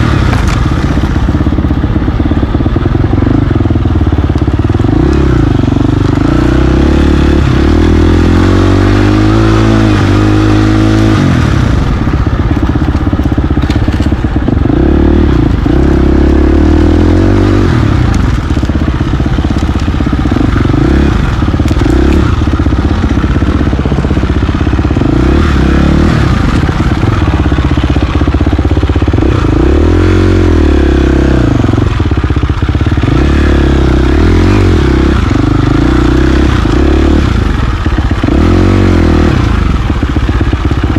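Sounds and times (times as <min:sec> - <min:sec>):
dirt bike engine revving: 0:00.0 - 0:01.4, 0:02.1 - 0:40.9.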